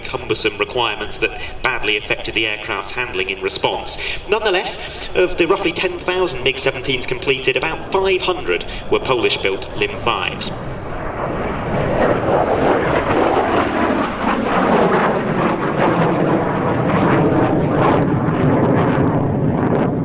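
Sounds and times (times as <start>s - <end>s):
jet engine rush with crackles: 0.0s - 20.0s.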